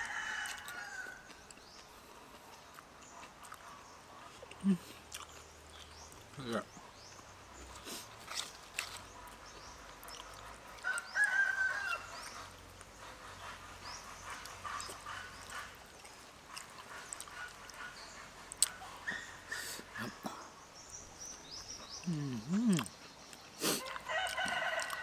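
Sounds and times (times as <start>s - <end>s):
chewing: 0.1s - 20.4s, 21.3s - 25.0s.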